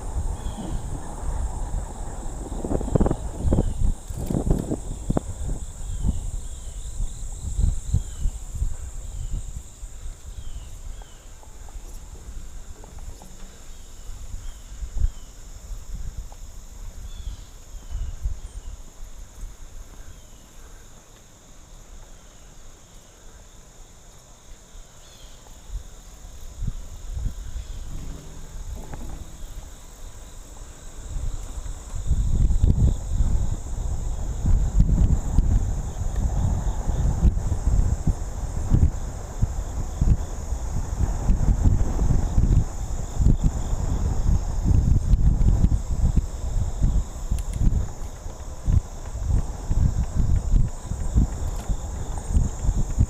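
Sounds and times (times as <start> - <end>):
wind buffeting microphone: 0.0 - 20.2, 25.8 - 53.0
insect drone: 0.0 - 53.0.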